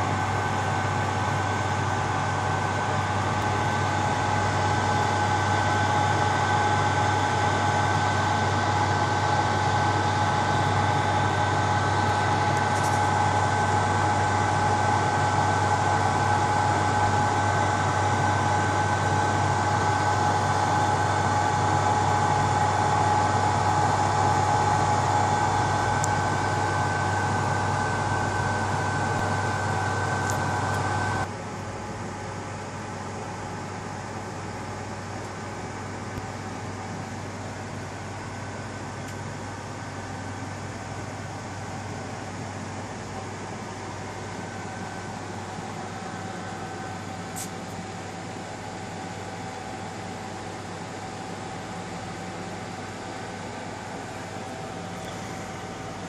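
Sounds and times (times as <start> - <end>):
high steady whine: 0.0 - 56.0
hot-air blowers whirring: 0.0 - 56.0.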